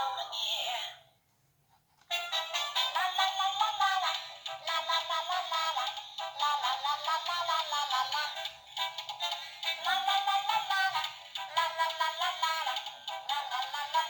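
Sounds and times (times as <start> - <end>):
electronic children's song: 2.1 - 14.0.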